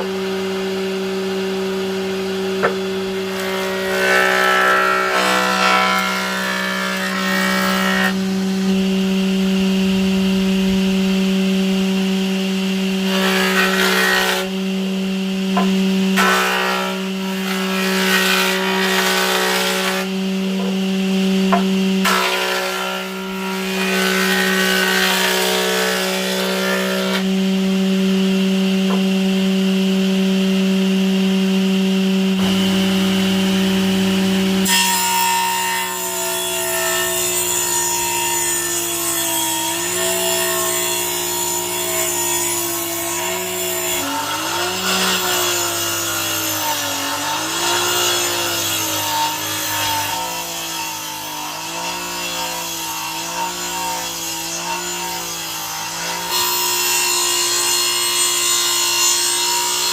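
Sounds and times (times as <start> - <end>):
power saw cutting wood: 0.0 - 31.4, 32.3 - 59.9.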